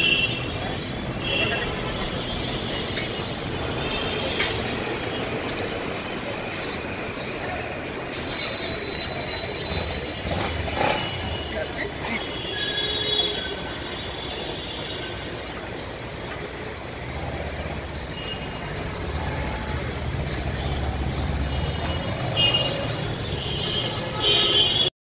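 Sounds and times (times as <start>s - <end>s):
city street traffic: 0.0s - 25.0s.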